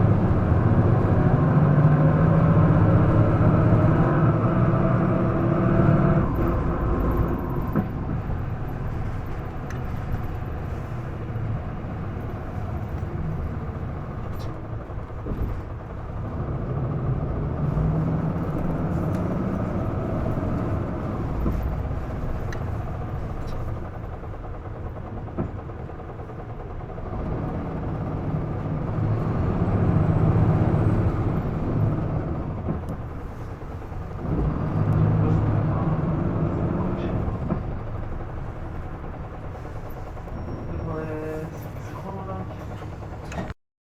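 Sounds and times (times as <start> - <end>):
bus engine running: 0.0 - 43.6.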